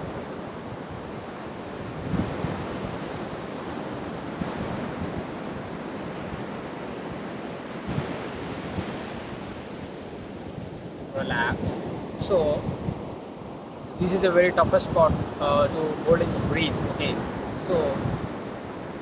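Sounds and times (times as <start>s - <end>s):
ocean surf rushing: 0.0s - 19.0s
wind on microphone: 0.0s - 19.0s.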